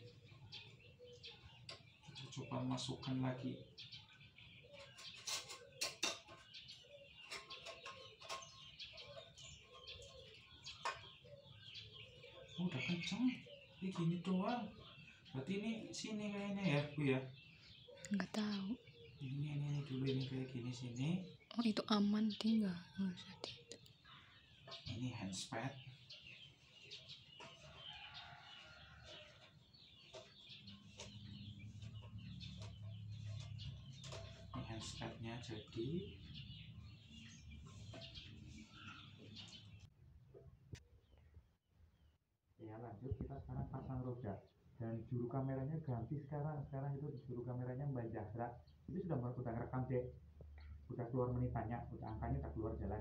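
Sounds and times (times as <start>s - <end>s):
birds chirping faintly: 0.0s - 53.0s.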